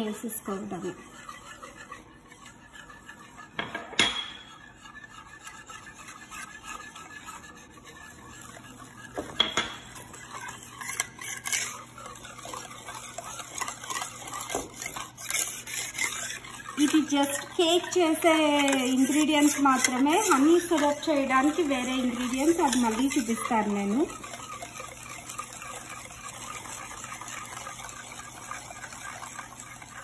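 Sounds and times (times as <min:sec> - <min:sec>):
whisk clinking against bowl: 0:00.0 - 0:30.0
whisk stirring batter: 0:00.0 - 0:30.0.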